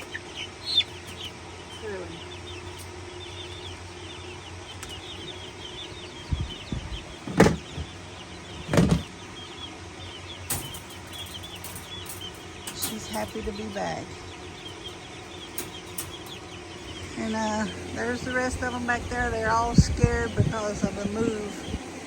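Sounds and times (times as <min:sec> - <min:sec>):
baby chicks peeping: 0:00.0 - 0:22.0
low hum: 0:00.0 - 0:22.0.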